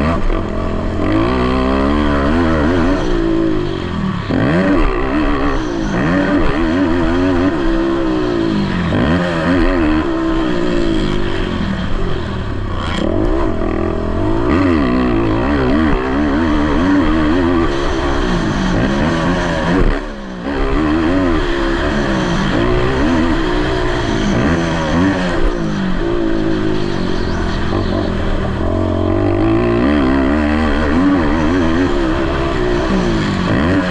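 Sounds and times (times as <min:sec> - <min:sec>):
atv engines revving: 0:00.0 - 0:33.9.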